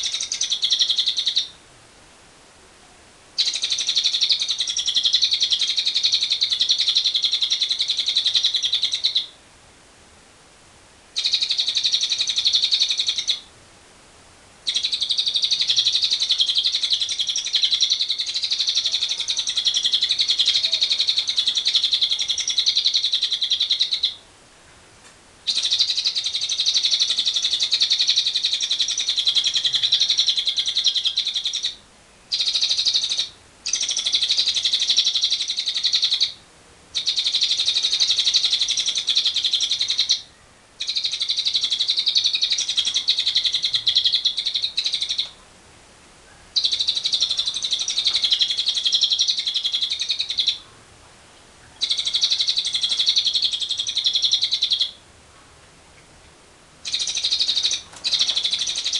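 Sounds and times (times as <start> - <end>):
bird chattering trill: 0.0 - 1.6, 3.4 - 9.4, 11.2 - 13.5, 14.6 - 24.2, 25.5 - 36.4, 37.0 - 45.4, 46.6 - 50.6, 51.7 - 55.0, 56.8 - 58.9.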